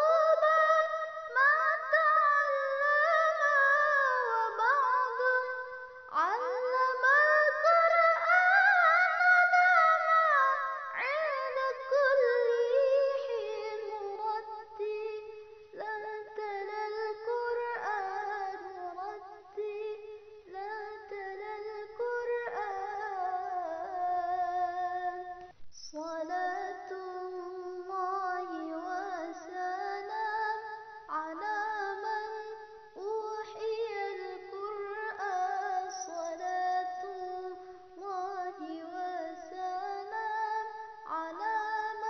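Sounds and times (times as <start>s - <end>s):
woman singing slow melody: 0.0s - 42.0s.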